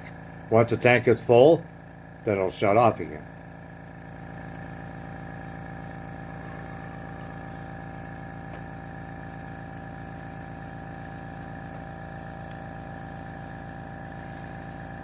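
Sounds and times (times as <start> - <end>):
air compressor motor pulsing hum: 0.0 - 15.0.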